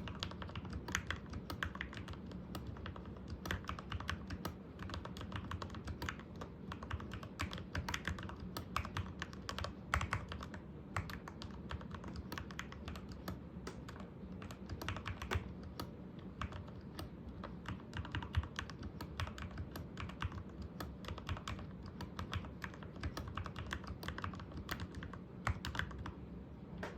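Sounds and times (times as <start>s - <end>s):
mechanical keyboard typing: 0.0s - 26.2s.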